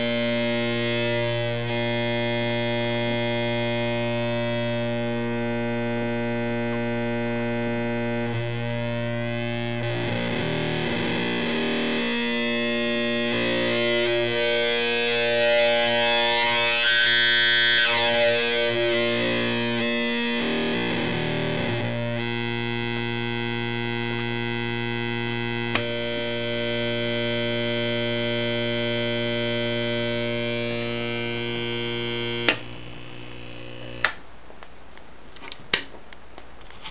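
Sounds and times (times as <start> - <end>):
buzzy synthesizer drone: 0.0 - 34.1.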